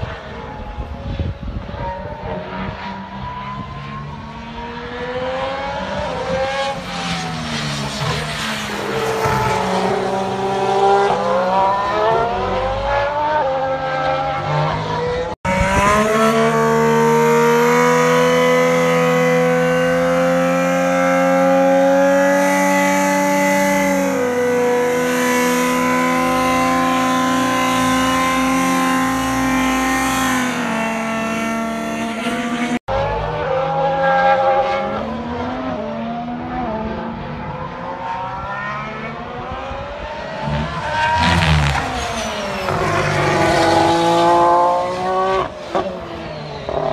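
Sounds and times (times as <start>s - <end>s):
racing car engines at speed: 0.0s - 46.9s.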